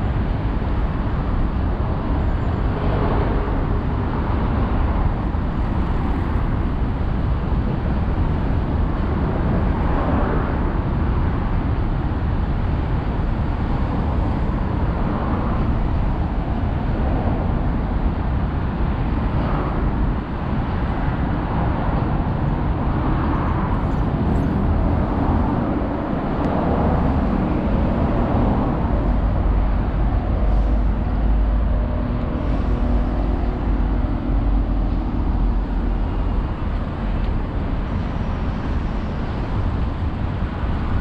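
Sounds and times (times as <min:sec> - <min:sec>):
faint engine hum: 0:00.0 - 0:41.0
road traffic rumble: 0:00.0 - 0:41.0.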